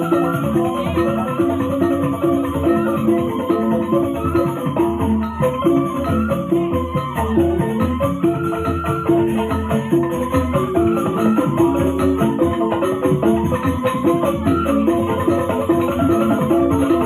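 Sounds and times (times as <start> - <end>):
regular percussion beat: 0.0 - 17.0.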